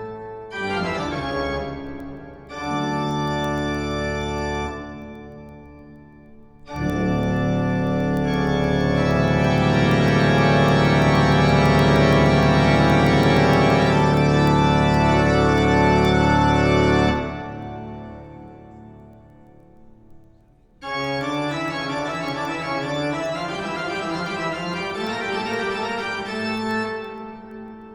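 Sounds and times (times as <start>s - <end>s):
organ chord: 0.0s - 5.1s, 6.7s - 19.2s, 20.8s - 27.7s.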